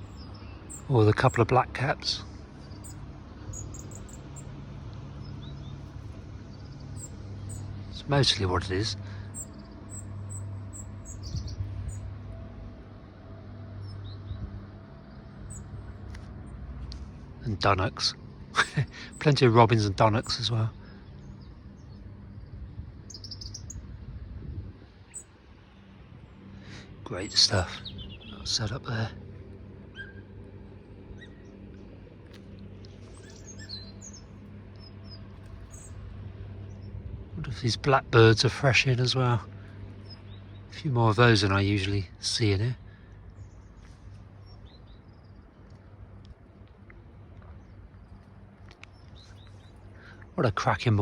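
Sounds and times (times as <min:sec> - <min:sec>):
low background hum: 0:00.0 - 0:51.0
songbirds chirping: 0:00.0 - 0:51.0.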